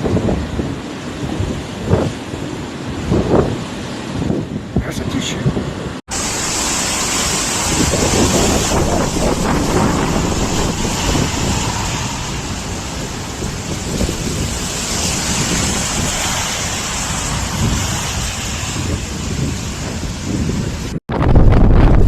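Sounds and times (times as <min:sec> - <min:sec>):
blizzard wind buffeting microphone: 0:00.0 - 0:22.0.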